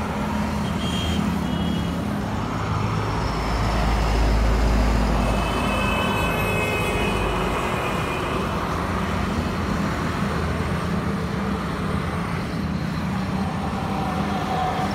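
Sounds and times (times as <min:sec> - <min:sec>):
road traffic rumble: 0:00.0 - 0:14.9.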